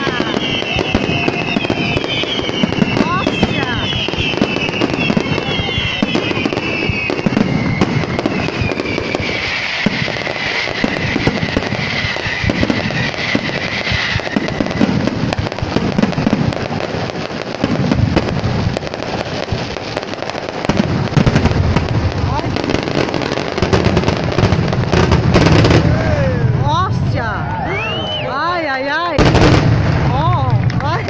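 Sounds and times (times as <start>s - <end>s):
fireworks whistles: 0.0s - 26.1s, 27.6s - 30.3s
fireworks bangs and crackling: 0.0s - 31.0s.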